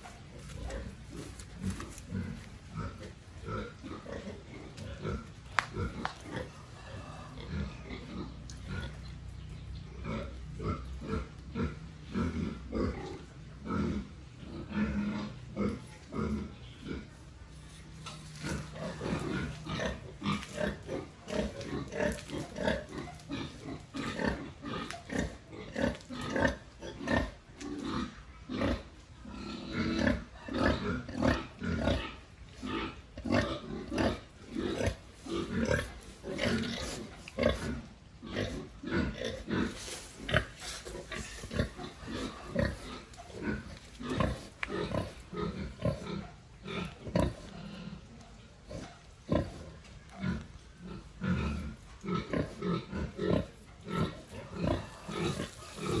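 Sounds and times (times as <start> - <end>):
pig grunting: 0.0 - 9.0, 18.3 - 56.0.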